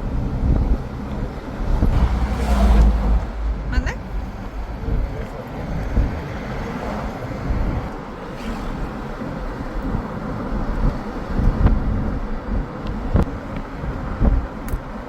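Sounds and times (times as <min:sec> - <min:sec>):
low rumble and hiss: 0:00.0 - 0:12.1.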